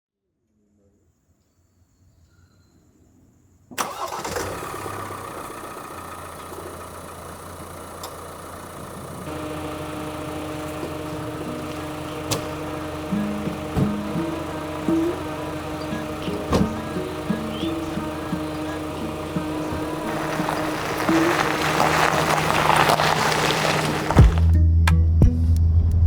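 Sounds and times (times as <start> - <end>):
van engine starting and idling: 3.7 - 24.7.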